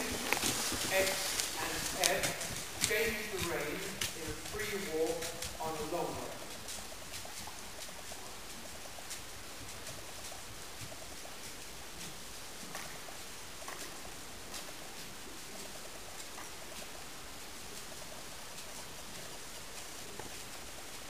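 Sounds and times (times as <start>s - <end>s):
horse hooves on sand: 0.0s - 21.0s.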